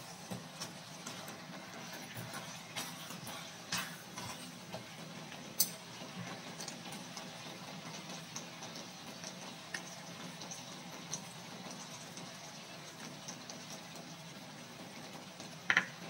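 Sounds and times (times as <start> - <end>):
food sizzling in a skillet: 0.0 - 16.0.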